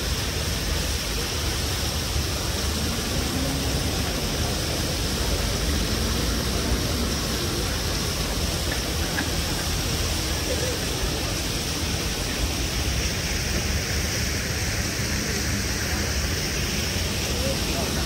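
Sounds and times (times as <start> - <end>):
fountain water splashing into basin: 0.0 - 18.0.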